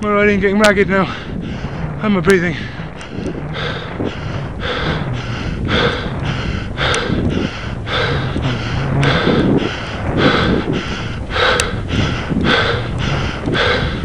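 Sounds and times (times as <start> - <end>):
person breathing heavily: 1.0 - 14.0.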